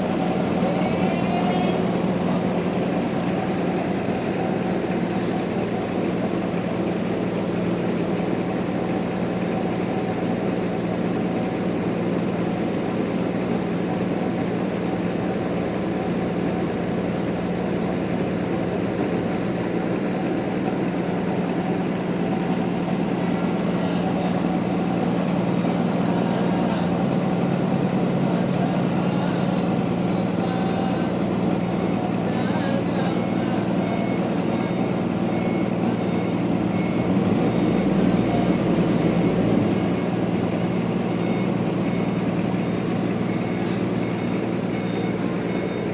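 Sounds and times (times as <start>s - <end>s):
sawmill machinery humming: 0.0s - 45.9s.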